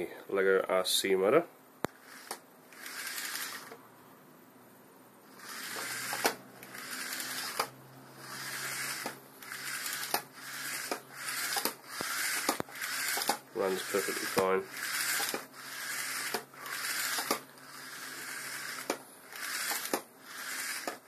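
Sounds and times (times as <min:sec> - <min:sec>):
steady low hum: 0:00.0 - 0:21.0
small electric motor whirring: 0:01.9 - 0:03.8, 0:05.3 - 0:21.0.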